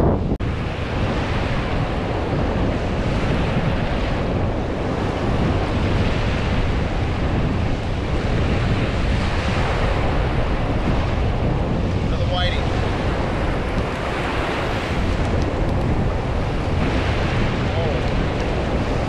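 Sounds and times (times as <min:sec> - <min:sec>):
ocean surf on beach: 0:00.0 - 0:19.0
wind buffeting microphone: 0:00.0 - 0:19.0.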